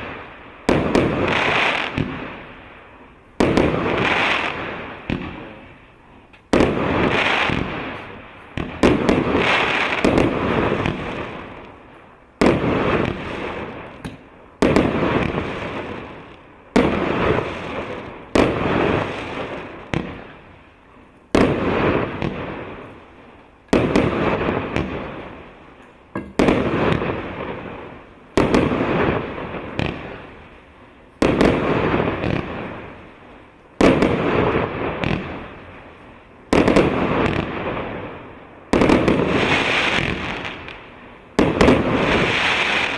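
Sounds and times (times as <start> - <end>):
firework shots bursting: 0.0 - 2.5, 3.4 - 5.8, 6.5 - 11.8, 12.4 - 20.5, 21.3 - 22.9, 23.7 - 25.4, 26.2 - 30.4, 31.2 - 33.1, 33.8 - 35.8, 36.5 - 42.9
firework crackle and echo: 0.0 - 42.9.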